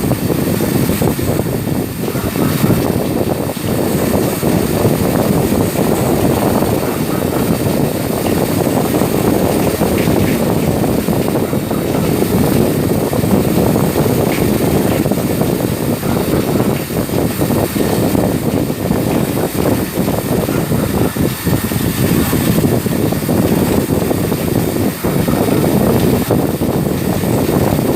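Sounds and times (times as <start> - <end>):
machine rumbling: 0.0 - 27.9.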